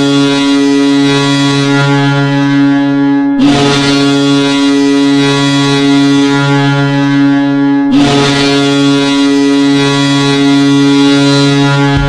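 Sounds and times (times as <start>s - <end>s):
hockey goal horn blowing: 0.0s - 12.0s.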